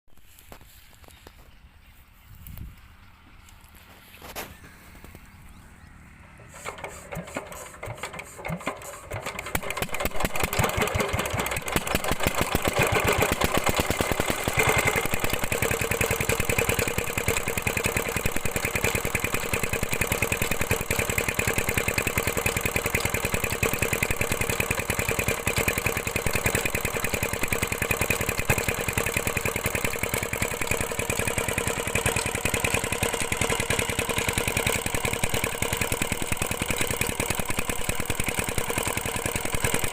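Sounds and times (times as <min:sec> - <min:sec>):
diesel engine starting and knocking: 0:05.0 - 0:39.9.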